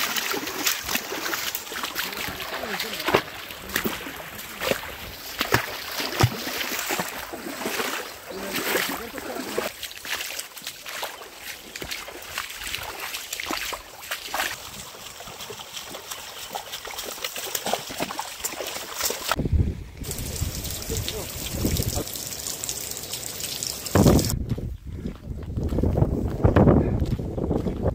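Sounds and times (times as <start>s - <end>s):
sharp water splashes: 0.0s - 19.4s, 20.0s - 24.4s
stream water splashing and trickling: 0.0s - 24.5s.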